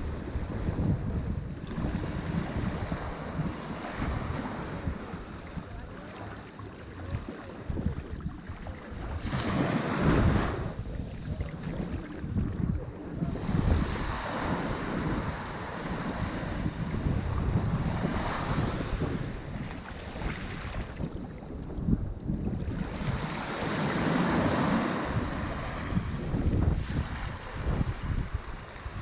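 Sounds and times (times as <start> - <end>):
wind buffeting microphone: 0.0 - 29.0
ocean waves breaking: 1.6 - 29.0.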